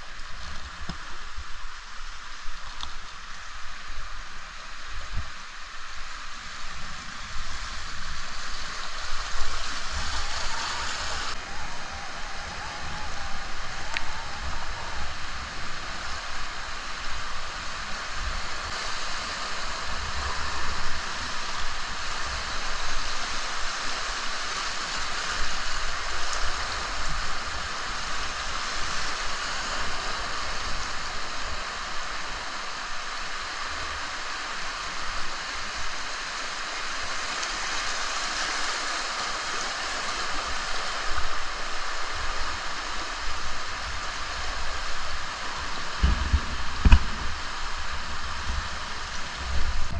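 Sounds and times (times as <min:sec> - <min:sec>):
river whitewater rushing: 0:01.0 - 0:49.9.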